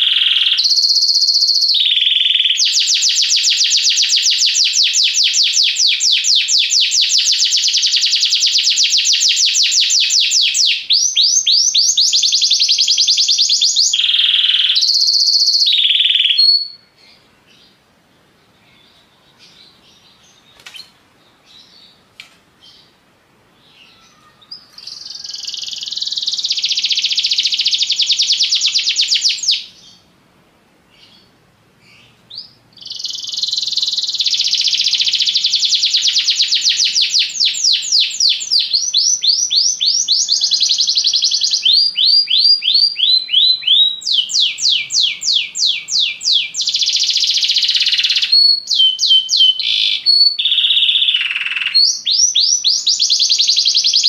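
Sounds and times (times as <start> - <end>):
canary singing trills: 0.0 - 17.8, 23.6 - 30.1, 30.9 - 54.0.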